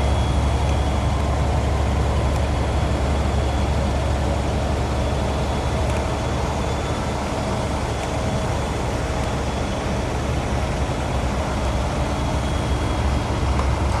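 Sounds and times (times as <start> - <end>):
constant rushing noise: 0.0 - 14.0
snow plow train rumbling: 0.0 - 14.0.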